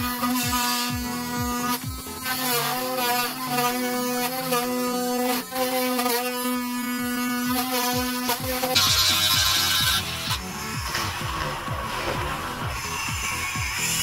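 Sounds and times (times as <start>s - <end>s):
rotary tool cutting plastic: 0.0s - 14.0s.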